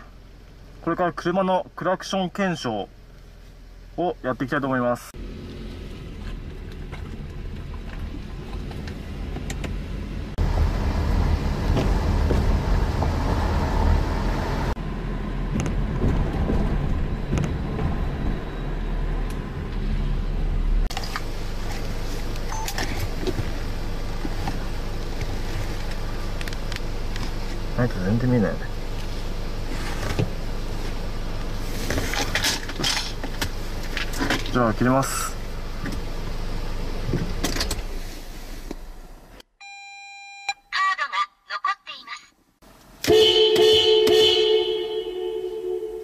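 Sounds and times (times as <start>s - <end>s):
car engine and road noise: 0.0s - 40.4s, 42.4s - 46.0s.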